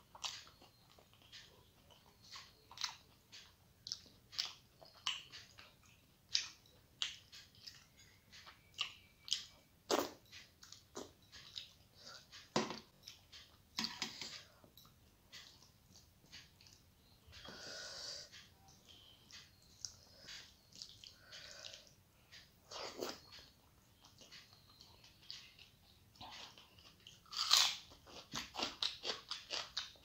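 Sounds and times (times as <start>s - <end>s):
wet chewing mouth sounds: 0.0s - 13.6s, 18.4s - 30.0s.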